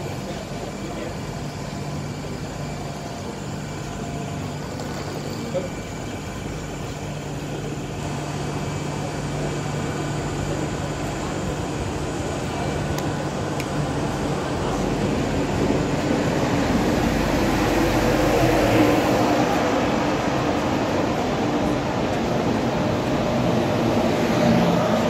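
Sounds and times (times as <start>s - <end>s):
train rolling into station: 0.0s - 25.0s.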